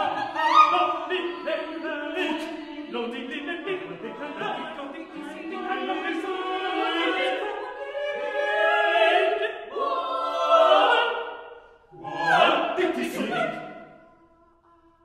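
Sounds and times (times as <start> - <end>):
a cappella vocal ensemble singing: 0.0 - 15.0.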